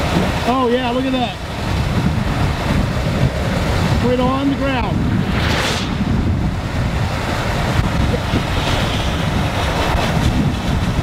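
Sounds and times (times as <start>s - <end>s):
vehicle rumble: 0.0s - 11.0s
wind buffeting microphone: 0.0s - 11.0s.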